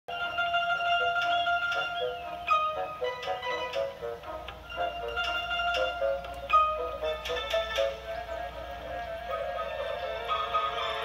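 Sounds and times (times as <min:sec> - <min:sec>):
cartoon music: 0:00.1 - 0:11.0.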